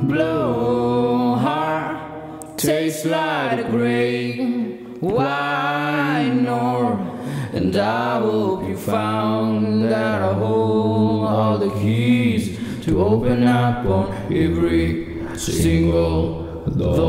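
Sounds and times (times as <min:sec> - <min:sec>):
man singing long notes: 0:00.0 - 0:17.0.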